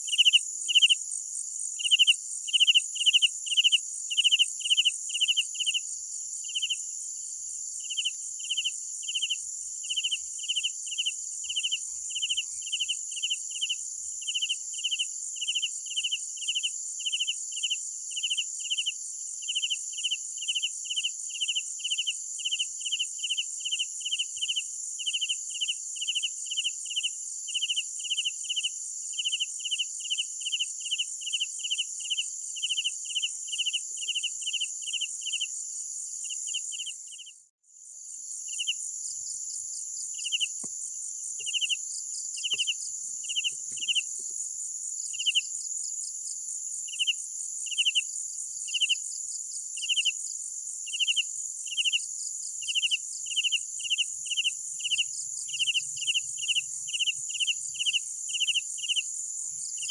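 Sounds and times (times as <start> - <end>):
cricket chirping: 0.0 - 59.9
high-pitched insect trill: 0.0 - 59.9.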